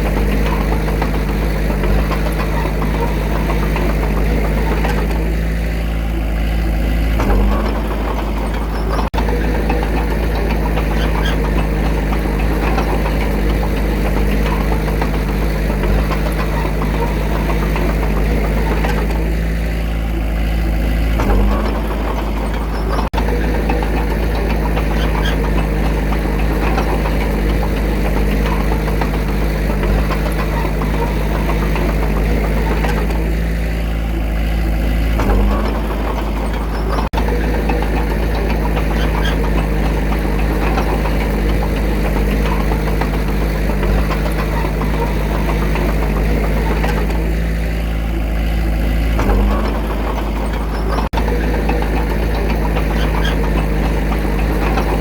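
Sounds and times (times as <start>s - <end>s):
heavy machinery diesel engine running: 0.0s - 55.0s.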